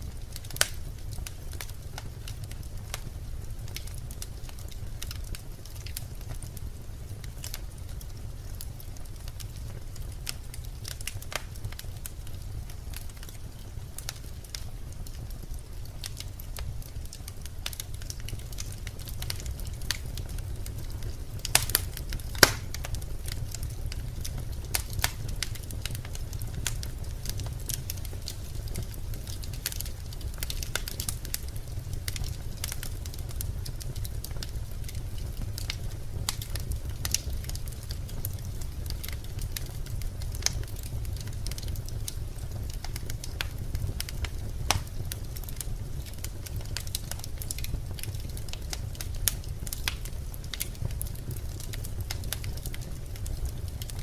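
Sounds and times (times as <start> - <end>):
logs crackling in a fireplace: 0.0 - 54.0.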